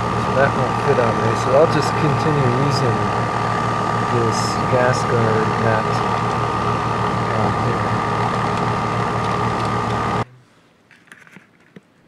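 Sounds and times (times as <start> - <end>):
air-conditioning unit humming: 0.0 - 10.8
constant high whine: 0.0 - 11.9.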